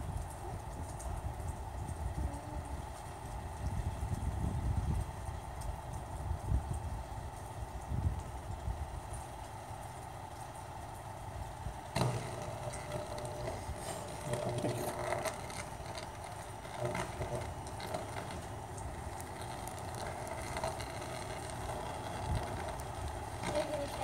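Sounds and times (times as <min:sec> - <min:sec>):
electrical arcing crackles and snaps: 0:00.0 - 0:24.0
steady outdoor hum: 0:00.0 - 0:24.0.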